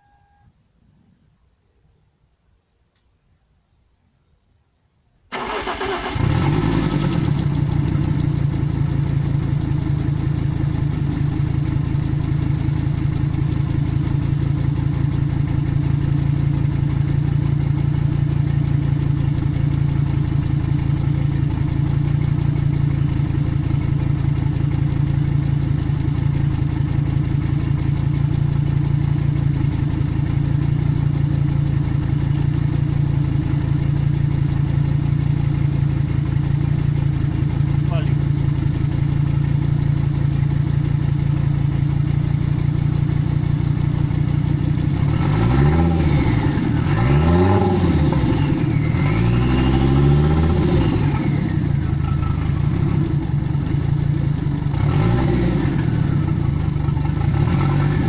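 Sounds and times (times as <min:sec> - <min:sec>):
car engine cranking and idling: 0:05.3 - 0:58.0.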